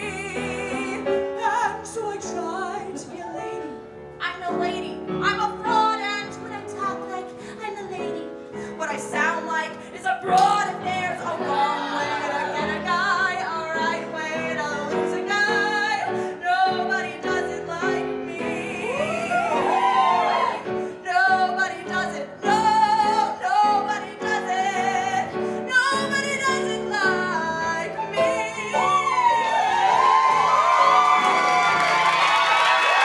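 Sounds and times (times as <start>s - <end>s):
woman singing into a microphone: 0.0s - 29.6s
live piano: 0.0s - 33.0s.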